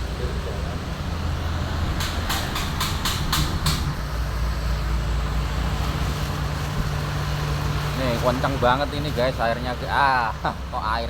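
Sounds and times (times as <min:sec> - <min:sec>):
blower fan humming and rushing air: 0:00.0 - 0:11.0.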